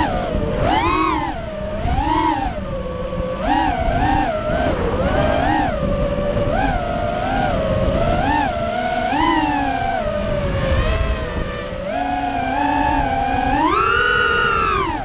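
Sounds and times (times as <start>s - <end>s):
drone motors whining: 0.0s - 15.0s
wind rumble: 0.0s - 15.0s.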